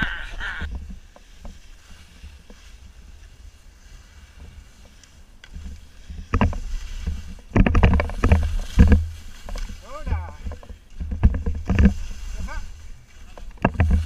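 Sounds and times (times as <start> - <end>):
skis scraping hard snow: 0.0 - 14.0.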